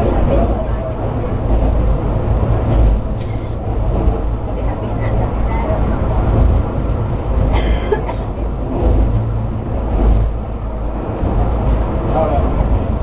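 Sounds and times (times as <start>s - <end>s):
funicular car low rumble: 0.0s - 13.0s.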